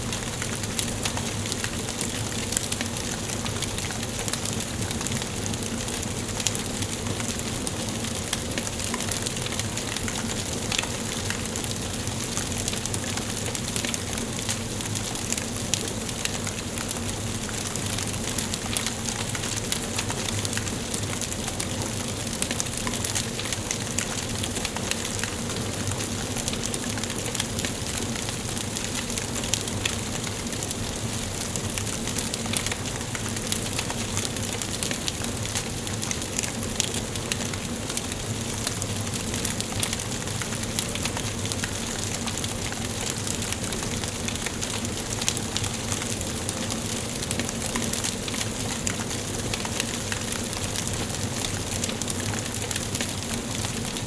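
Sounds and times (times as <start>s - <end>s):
wood fire crackling in fireplace: 0.0s - 54.0s.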